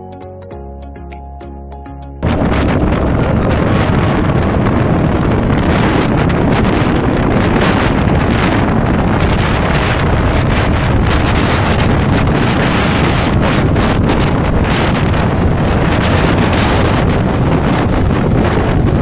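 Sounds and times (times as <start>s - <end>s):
motorcycle engine: 2.2s - 19.0s
road noise: 2.2s - 19.0s
wind noise on microphone: 2.2s - 19.0s.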